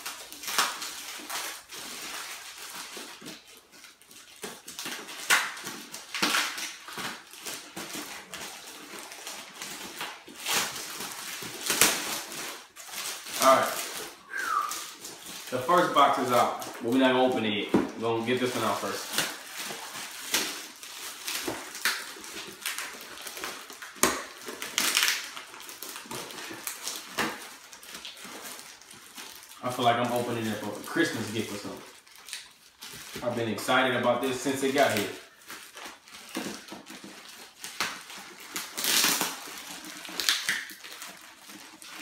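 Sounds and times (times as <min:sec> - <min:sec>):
plastic wrapping crinkling and tearing: 0:00.0 - 0:42.0.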